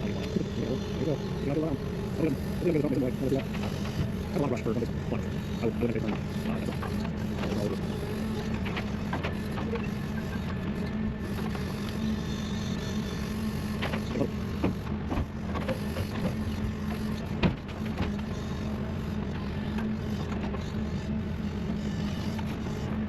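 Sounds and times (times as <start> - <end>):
heavy equipment diesel engine running: 0.0 - 23.0.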